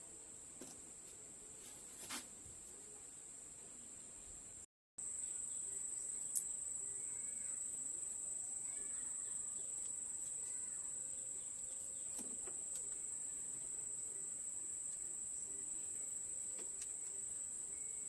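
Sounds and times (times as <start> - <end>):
faint bird chirps: 1.4 - 18.0.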